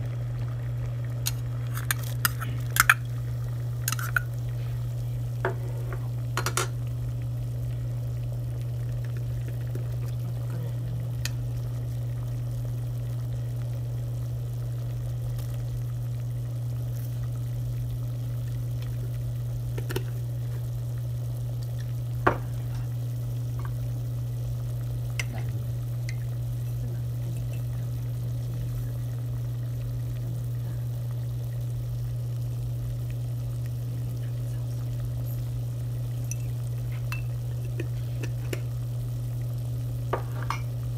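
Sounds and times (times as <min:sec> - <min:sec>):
constant low hum: 0:00.0 - 0:40.9
water boiling in pot: 0:00.0 - 0:40.9.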